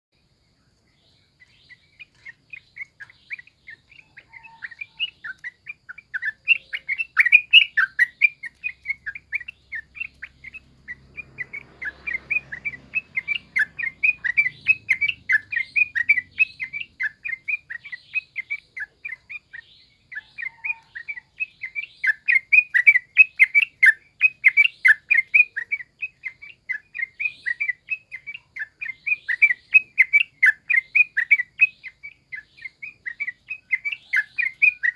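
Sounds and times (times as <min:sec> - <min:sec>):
bird chattering: 0:01.3 - 0:34.9.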